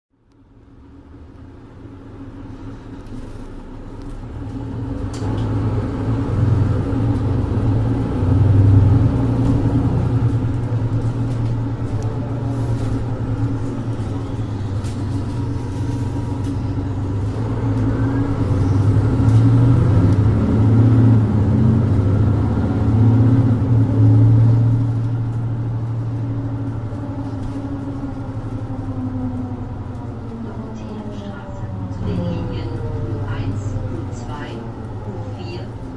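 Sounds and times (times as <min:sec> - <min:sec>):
bus diesel engine driving: 0:00.1 - 0:35.9.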